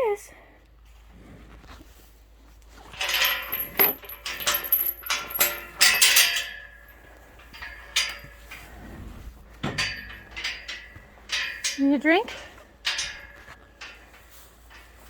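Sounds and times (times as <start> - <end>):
metal clinking and clattering: 2.8 - 15.0.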